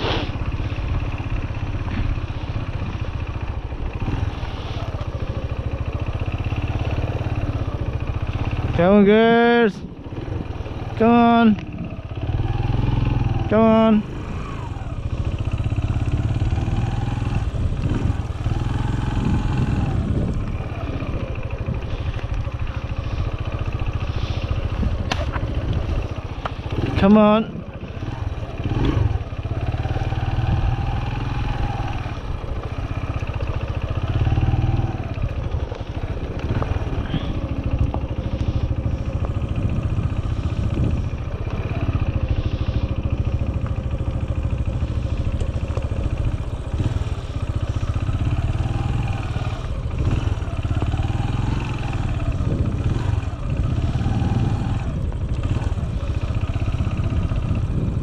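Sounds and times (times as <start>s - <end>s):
small farm vehicle engine: 0.0s - 58.0s.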